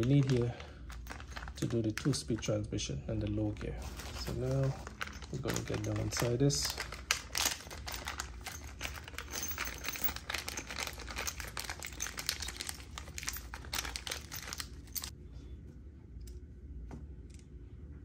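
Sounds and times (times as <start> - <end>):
plastic bag crinkling: 0.0 - 2.6, 3.3 - 15.1.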